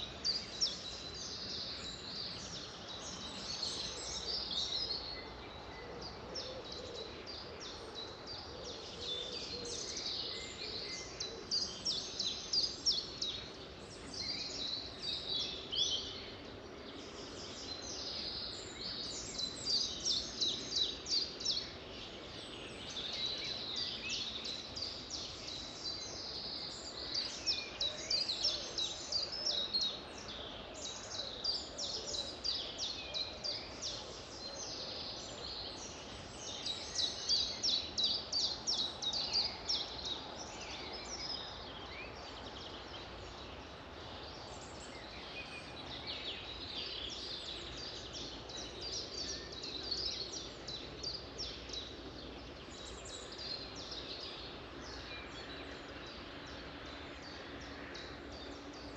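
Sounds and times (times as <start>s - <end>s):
faint background hiss: 0.0s - 58.9s
songbirds singing: 0.0s - 58.9s.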